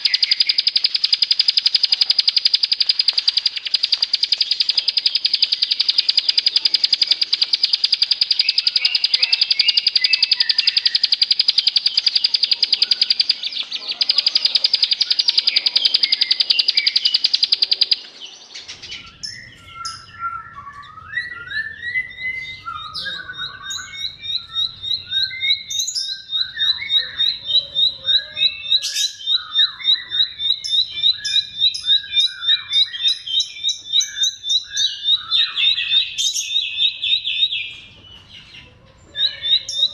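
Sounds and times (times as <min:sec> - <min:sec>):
bird song with buzzy trill: 0:00.0 - 0:39.9.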